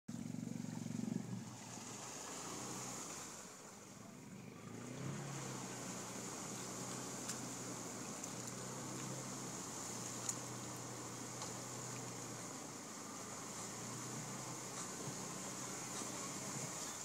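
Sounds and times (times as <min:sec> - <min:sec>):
atv engine running: 0:00.1 - 0:03.4, 0:04.1 - 0:17.0
water churning around tires: 0:00.1 - 0:17.0.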